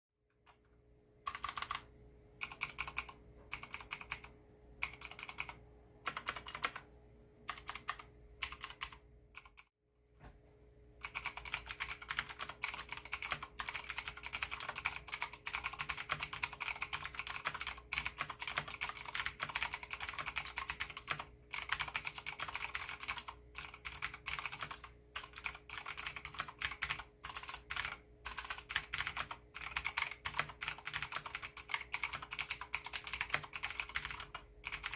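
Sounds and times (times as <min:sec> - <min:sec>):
faint steady hum: 0:00.2 - 0:34.9
clicky mechanical keyboard typing: 0:01.2 - 0:09.7, 0:11.0 - 0:34.9.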